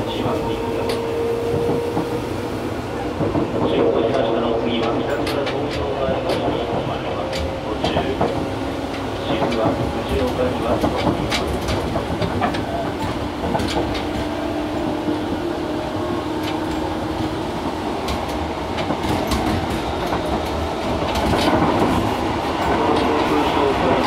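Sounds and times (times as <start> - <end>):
rail joint clicks: 0.0 - 24.0
train wheels rumbling: 0.0 - 24.0.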